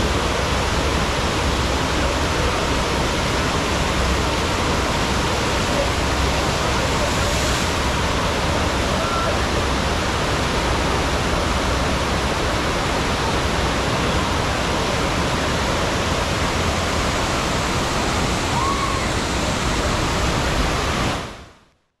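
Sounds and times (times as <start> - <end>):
water rushing: 0.0 - 21.6.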